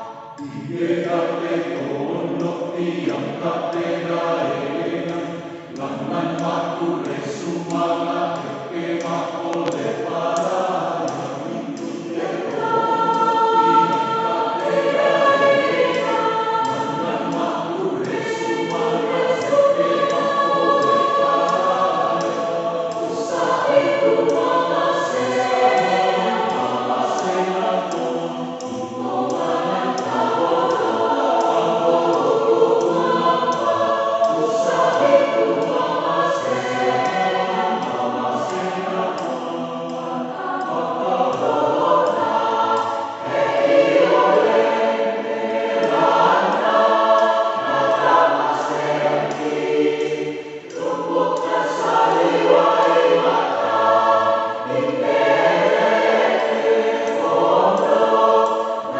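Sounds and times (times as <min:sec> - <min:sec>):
mixed choir singing: 0:00.0 - 0:58.9.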